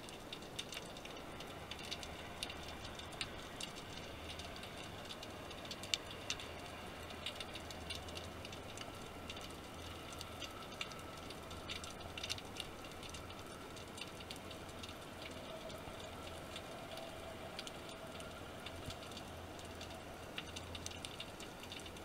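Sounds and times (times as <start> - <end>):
underwater clicks and crackles: 0.0 - 22.0.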